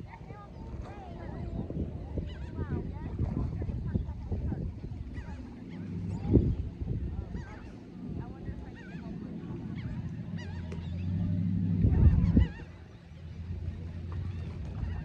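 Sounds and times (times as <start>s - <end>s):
birds calling: 0.0s - 15.0s
wind rumble on microphone: 0.0s - 15.0s.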